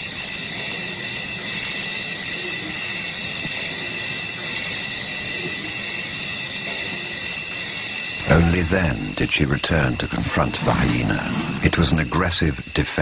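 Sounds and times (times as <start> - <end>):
high-pitched insect chorus: 0.0 - 13.0
low rumble of bush ambience: 0.0 - 13.0.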